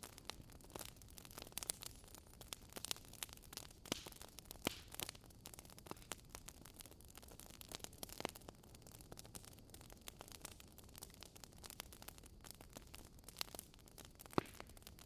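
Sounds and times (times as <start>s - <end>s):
logs crackling and popping: 0.0s - 15.0s.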